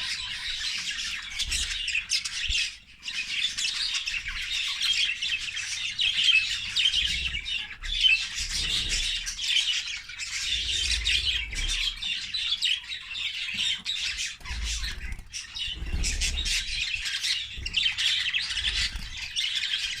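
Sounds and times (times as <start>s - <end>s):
budgerigars chattering: 0.0s - 20.0s.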